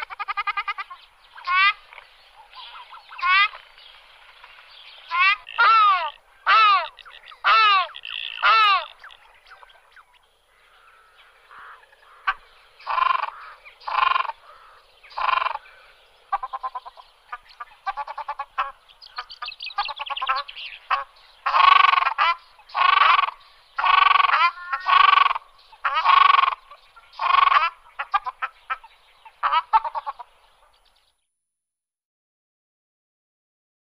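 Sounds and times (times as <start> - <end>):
ducks calling: 0.0 - 30.8.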